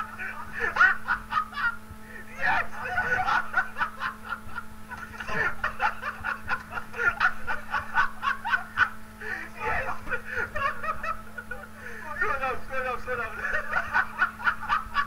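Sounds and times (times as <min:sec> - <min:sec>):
people laughing: 0:00.0 - 0:15.0.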